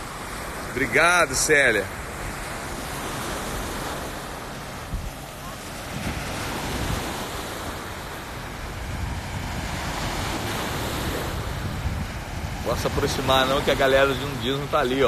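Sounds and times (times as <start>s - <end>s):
ocean surf on beach: 0.0s - 15.0s
wind buffeting microphone: 2.0s - 15.0s.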